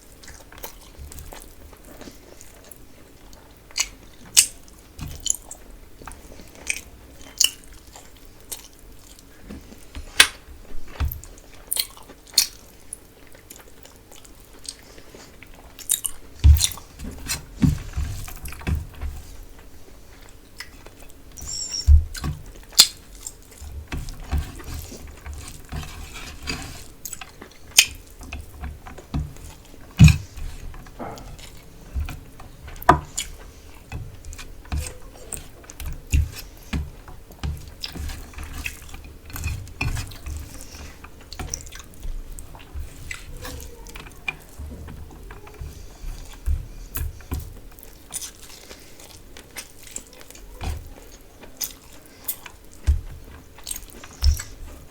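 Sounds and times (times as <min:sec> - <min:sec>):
person chewing food: 0:00.0 - 0:54.9.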